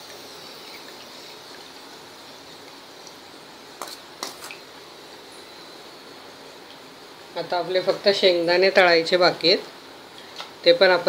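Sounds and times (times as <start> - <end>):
frying oil sizzling: 0.0 - 11.0.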